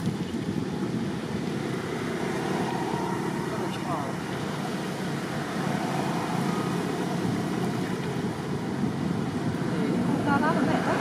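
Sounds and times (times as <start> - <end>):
outdoor background rumbling hiss: 0.0 - 11.0.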